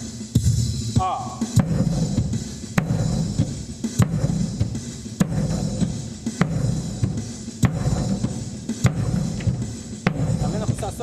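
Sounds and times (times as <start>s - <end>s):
bass drum beating: 0.0s - 11.0s
recorded percussion loop: 0.0s - 11.0s.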